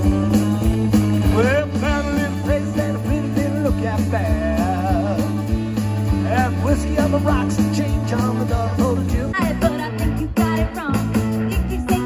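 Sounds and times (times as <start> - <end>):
bass guitar: 0.0 - 12.0
drum kit: 0.0 - 12.0
electric guitars: 0.0 - 12.0
lead vocals: 1.2 - 12.0.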